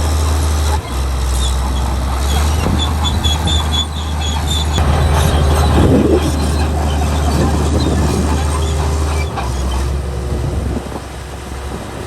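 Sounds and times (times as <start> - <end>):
bulldozer diesel engine drone: 0.0 - 12.0
steel tracks squeaking: 0.0 - 12.0.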